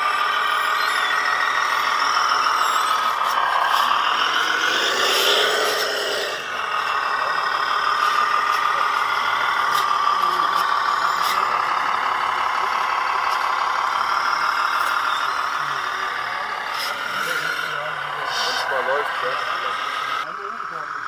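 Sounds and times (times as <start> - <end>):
toy truck motor whining: 0.0 - 21.0.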